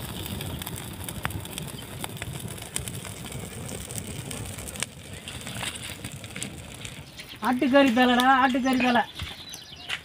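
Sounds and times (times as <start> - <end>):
fire crackling: 0.0 - 10.0.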